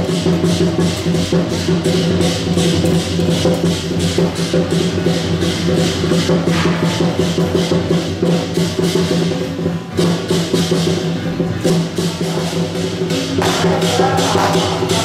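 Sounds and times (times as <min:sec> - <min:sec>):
drums and percussion beating: 0:00.0 - 0:15.0.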